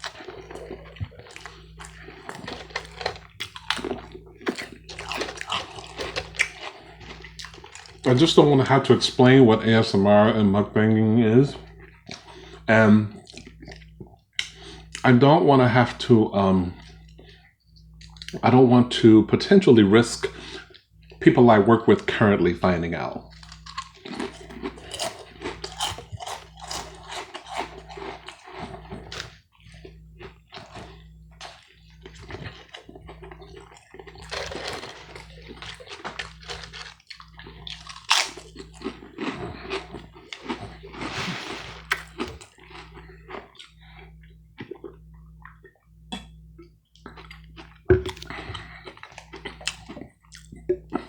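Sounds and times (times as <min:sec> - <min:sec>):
chewing food: 0:00.0 - 0:51.0
faint low pulsing hum: 0:00.0 - 0:51.0.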